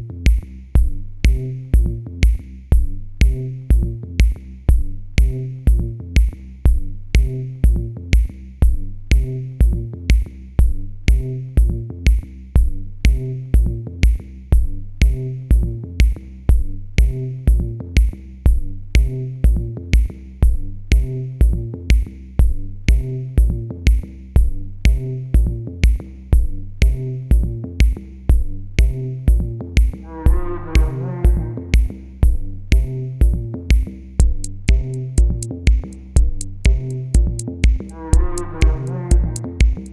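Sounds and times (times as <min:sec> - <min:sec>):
electronic music with drum beat: 0:00.0 - 0:39.9.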